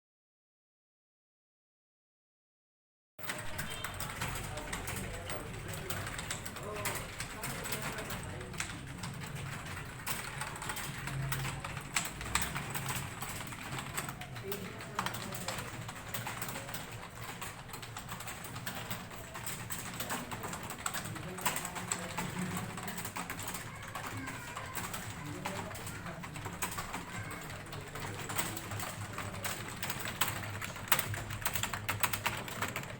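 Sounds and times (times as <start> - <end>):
rapid typing on keyboards: 3.2 - 32.9.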